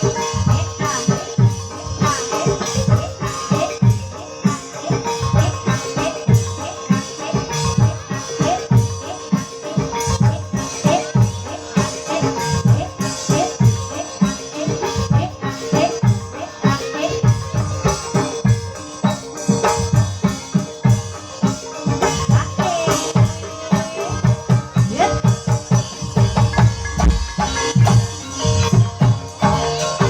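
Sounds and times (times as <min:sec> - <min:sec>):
drums beating quickly: 0:00.0 - 0:30.0
pitched melodic line: 0:00.0 - 0:30.0
steady held tone: 0:00.0 - 0:30.0
tuned percussion: 0:00.0 - 0:30.0.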